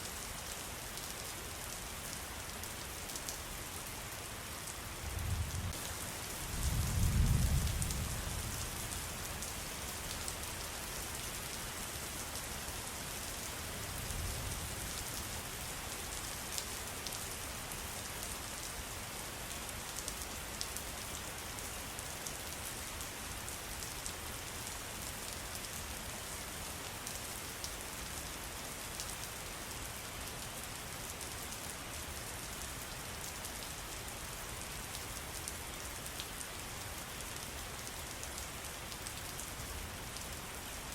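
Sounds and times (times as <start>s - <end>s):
rain pattering: 4.7s - 40.9s.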